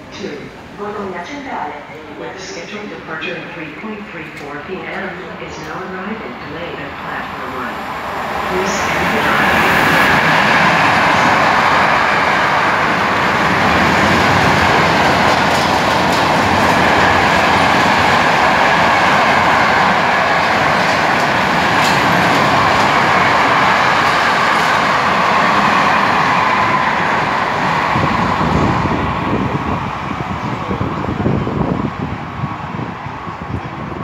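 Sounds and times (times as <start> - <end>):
train wheels rushing on rail: 6.6 - 34.0.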